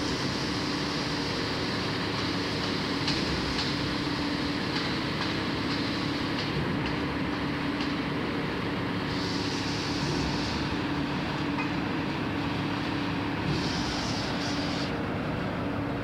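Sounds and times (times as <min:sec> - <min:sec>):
construction machinery drone: 0:00.0 - 0:16.0.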